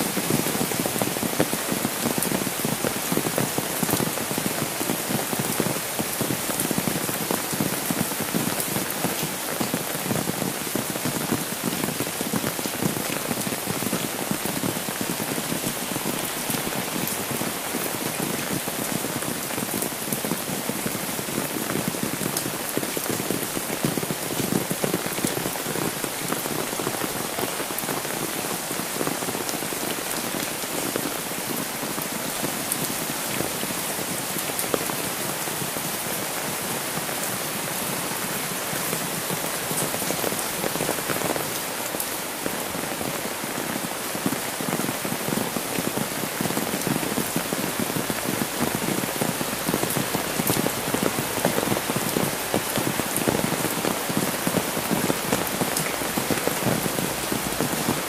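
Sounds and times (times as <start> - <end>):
raindrops hitting an umbrella: 0.0 - 58.0
steady rain falling: 0.0 - 58.0.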